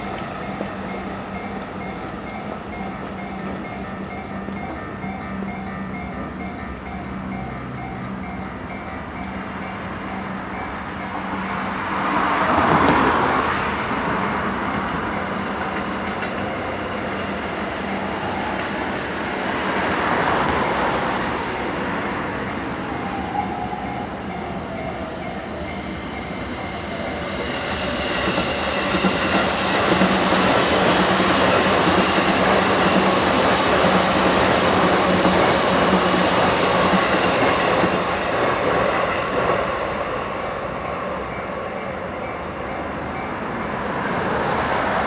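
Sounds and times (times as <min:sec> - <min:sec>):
electric trains passing: 0:00.0 - 0:45.0.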